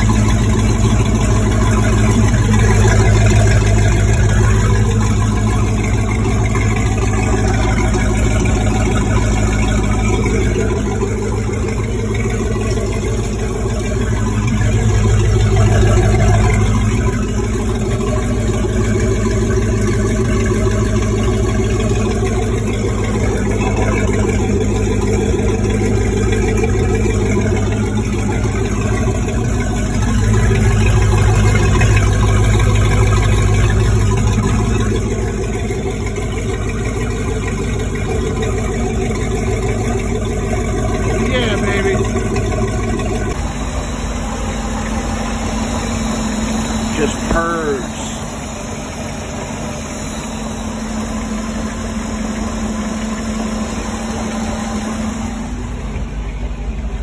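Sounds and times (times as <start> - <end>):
boat engine idling with lope: 0.0 - 57.0.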